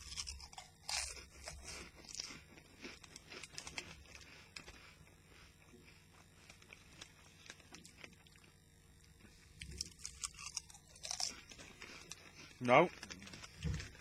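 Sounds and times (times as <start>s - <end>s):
crisps being chewed: 0.0s - 14.0s.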